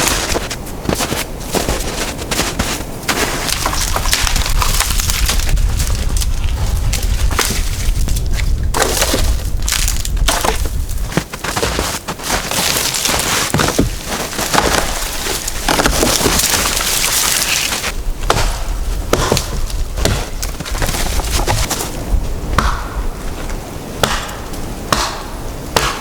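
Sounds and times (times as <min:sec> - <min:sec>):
dry wood cracking and splintering: 0:00.0 - 0:22.0.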